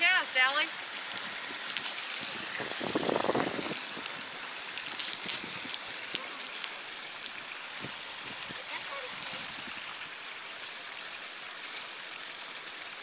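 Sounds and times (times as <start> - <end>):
water trickling into pond: 0.0 - 13.0.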